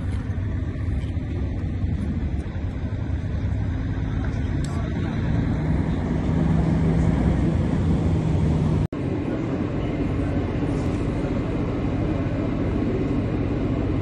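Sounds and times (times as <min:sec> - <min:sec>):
heavy machinery rumble: 0:00.0 - 0:14.0.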